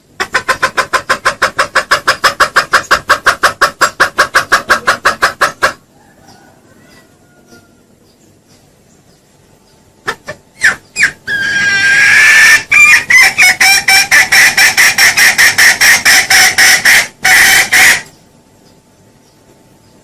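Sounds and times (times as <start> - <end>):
junglefowl calling and clucking: 0.0 - 8.2, 10.0 - 18.2.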